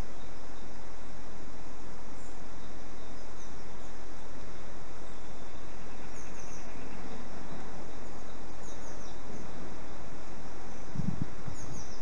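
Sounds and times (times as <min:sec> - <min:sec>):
faint bird chirps: 0:00.0 - 0:12.0
rushing outdoor background noise: 0:00.0 - 0:12.0.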